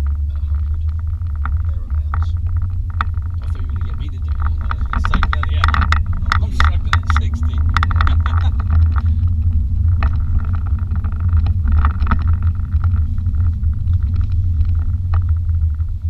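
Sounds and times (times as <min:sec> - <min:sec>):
car engine low drone: 0:00.0 - 0:16.0
road and tyre noise: 0:00.0 - 0:16.0.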